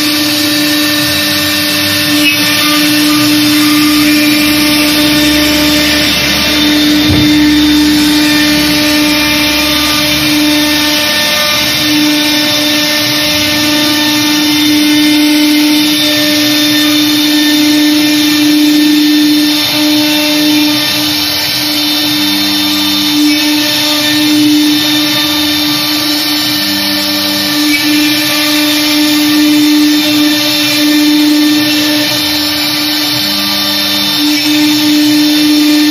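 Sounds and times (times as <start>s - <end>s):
router bit cutting wood: 0.0s - 35.9s
router spindle whine: 0.0s - 35.9s.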